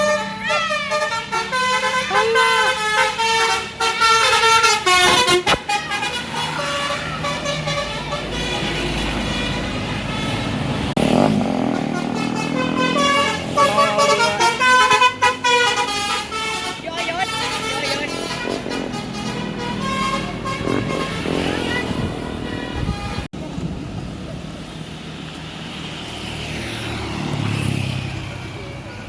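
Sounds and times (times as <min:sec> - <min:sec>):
multi-tone bus air horn melody: 0:00.0 - 0:23.3
bus engine rumble: 0:00.0 - 0:29.0.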